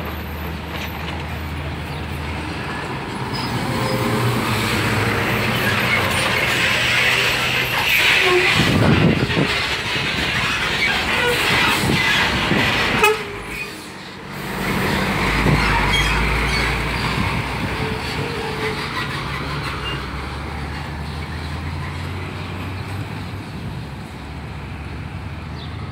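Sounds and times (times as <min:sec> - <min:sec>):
truck diesel engine passing: 0:00.0 - 0:25.9.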